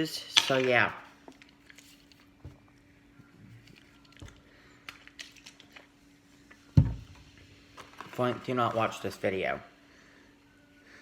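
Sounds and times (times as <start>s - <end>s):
faint steady hum: 0.9s - 11.0s.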